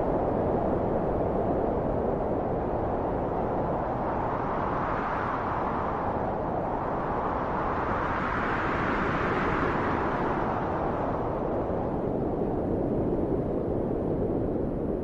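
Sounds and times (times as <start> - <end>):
rushing wind: 0.0 - 15.0.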